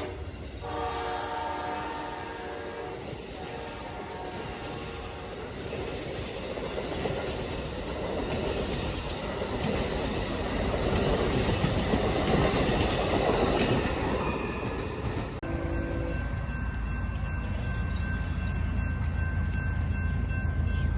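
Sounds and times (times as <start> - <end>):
train passing with wheel clatter: 0.0 - 20.9.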